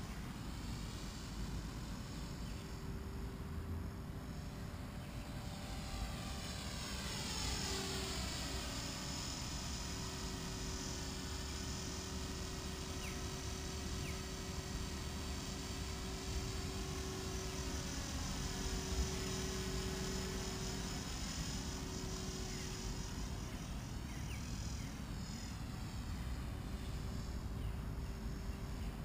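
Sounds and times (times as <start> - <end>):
rc helicopter motor whine: 0.0 - 29.0.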